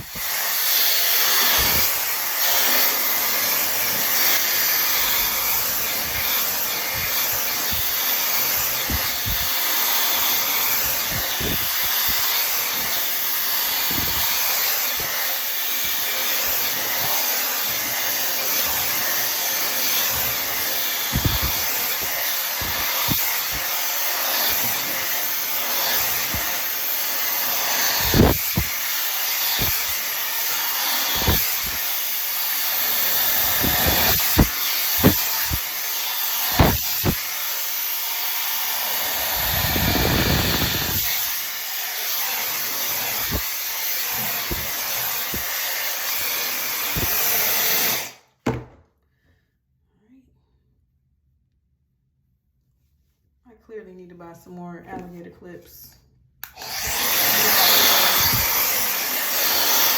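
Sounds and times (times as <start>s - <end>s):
blow dryer running: 0.0s - 48.2s, 56.4s - 59.9s.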